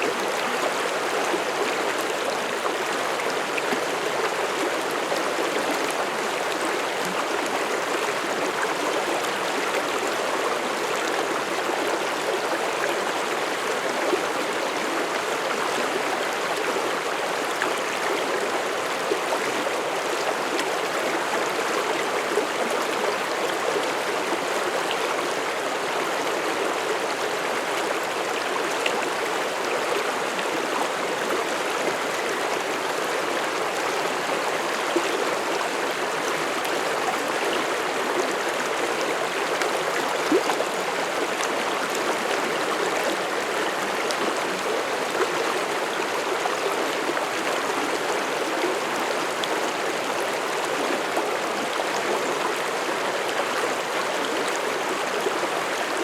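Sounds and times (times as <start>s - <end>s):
stream water flowing over rocks: 0.0s - 56.0s.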